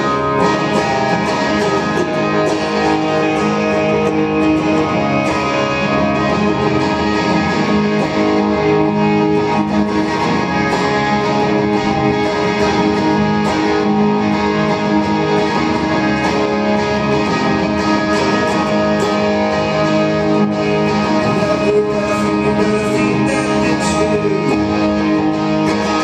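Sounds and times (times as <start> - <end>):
electric guitar chords: 0.0 - 26.0.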